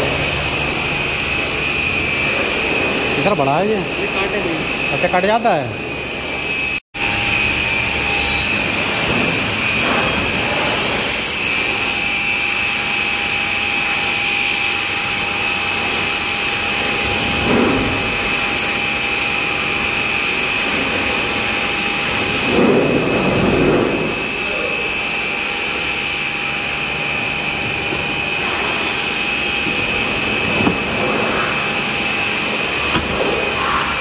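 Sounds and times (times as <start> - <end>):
workshop machine whine and hiss: 0.0 - 34.0.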